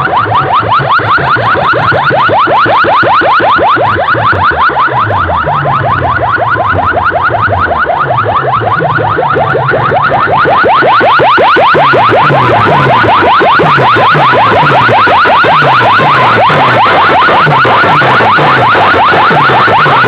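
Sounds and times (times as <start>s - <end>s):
siren-like electronic chirps: 0.0s - 20.0s
stepping bass line: 0.0s - 20.0s.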